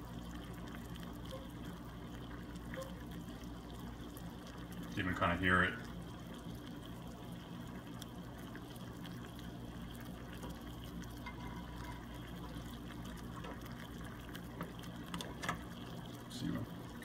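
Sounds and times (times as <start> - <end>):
water boiling in a saucepan: 0.0 - 17.0.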